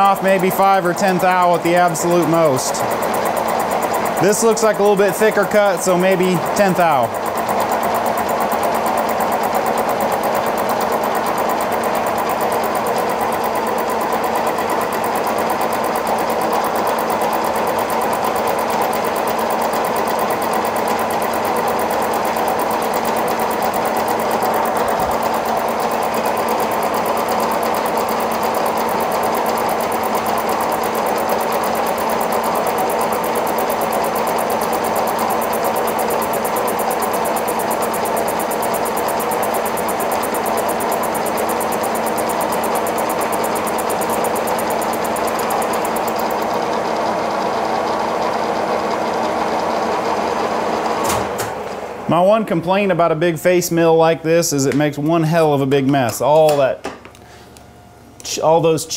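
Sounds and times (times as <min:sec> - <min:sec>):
milling machine humming: 0:00.0 - 0:52.3.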